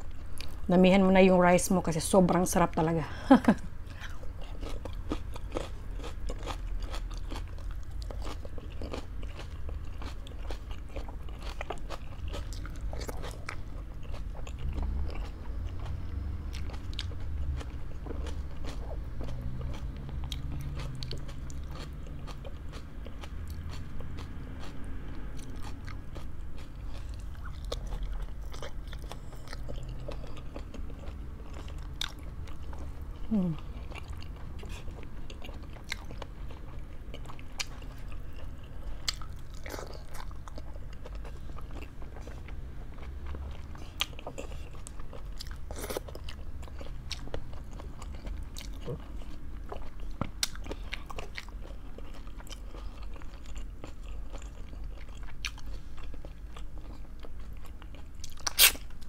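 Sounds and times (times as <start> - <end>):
chewing with crunches: 0.0 - 0.7, 3.8 - 59.0.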